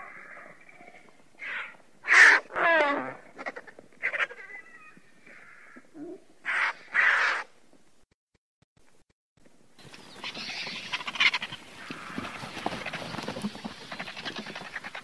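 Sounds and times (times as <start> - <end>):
vultures croaking and cawing: 0.0 - 7.6, 9.8 - 15.0.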